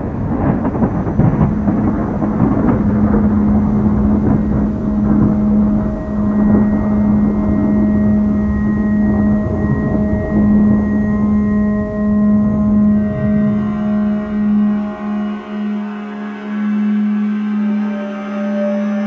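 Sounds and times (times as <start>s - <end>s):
deep rough rumbling: 0.0s - 17.8s
faint high ringing tones: 0.0s - 19.0s
low drone tone: 0.0s - 19.0s.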